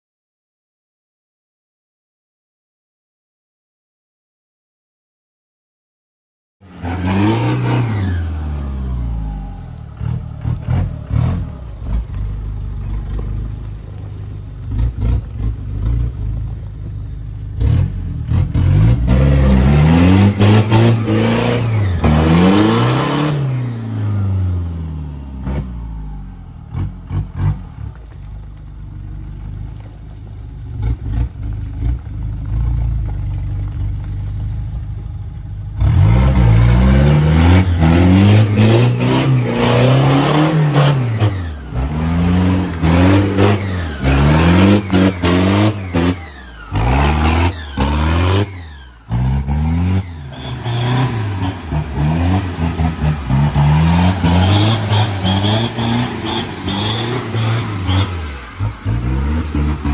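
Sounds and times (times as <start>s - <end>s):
off-road vehicle engine revving: 6.6s - 30.0s, 30.6s - 59.9s.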